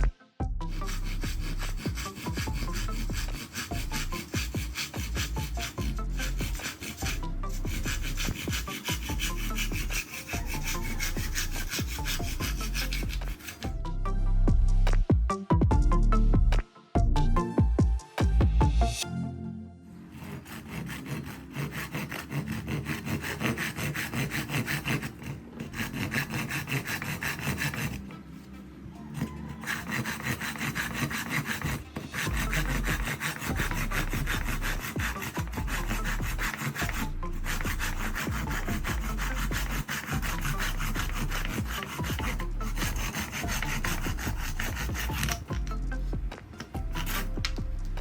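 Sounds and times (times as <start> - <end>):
saw cutting wood: 0.0 - 13.8, 20.0 - 48.0.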